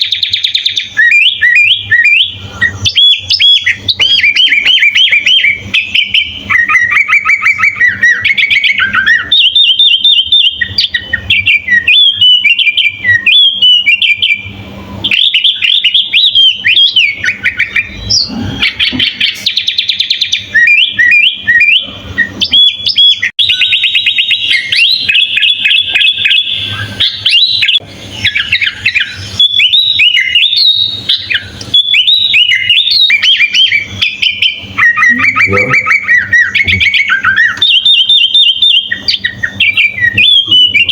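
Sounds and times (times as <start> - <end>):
bird singing varied chirps: 0.0 - 40.9.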